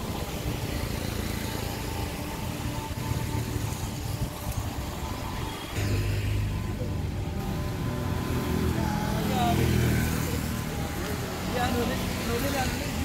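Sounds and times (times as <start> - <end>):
motorcycle and car engines: 0.0 - 13.0.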